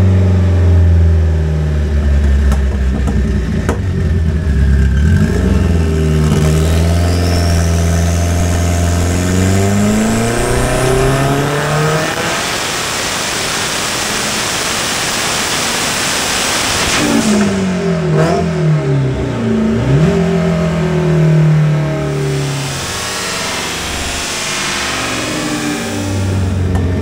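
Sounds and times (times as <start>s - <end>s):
turbocharged engine revving: 4.0s - 27.0s.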